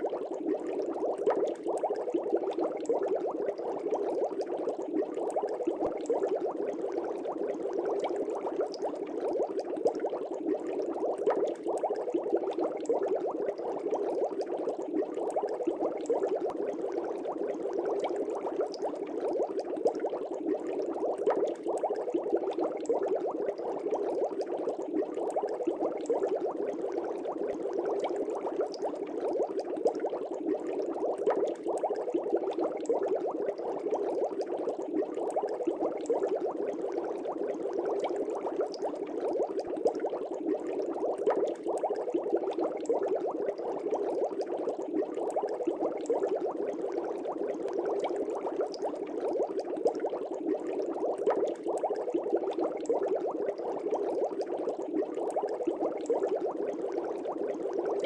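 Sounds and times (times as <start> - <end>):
aquarium air bubbling: 0.0 - 58.0.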